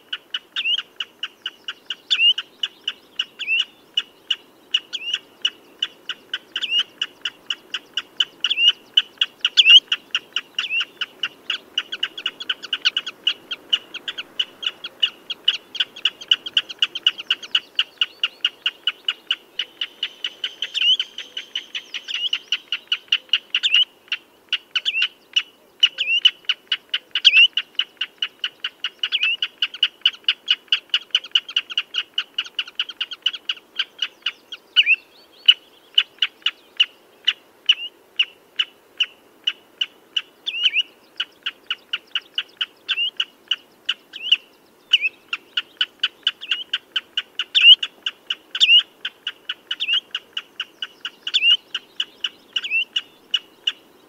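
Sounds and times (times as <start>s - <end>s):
bird high piping calls: 0.0s - 54.0s.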